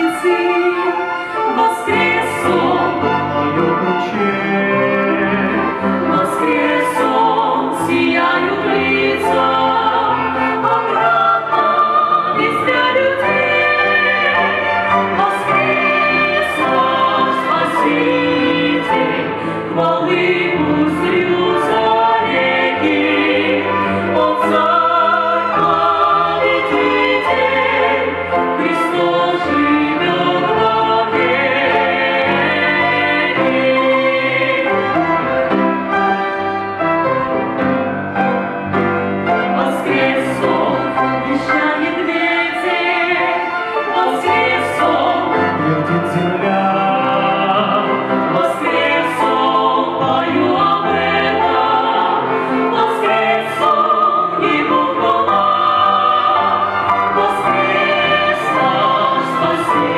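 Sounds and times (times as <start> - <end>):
voices singing together: 0.0 - 36.0, 39.2 - 59.9
instrumental accompaniment: 0.0 - 59.9.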